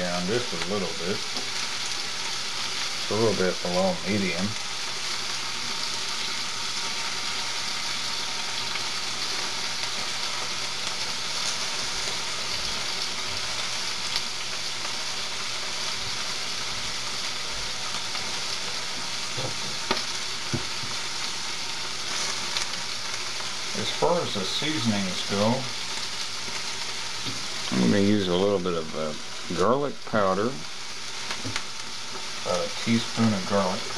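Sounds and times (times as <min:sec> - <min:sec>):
chicken sizzling in oil: 0:00.0 - 0:33.9.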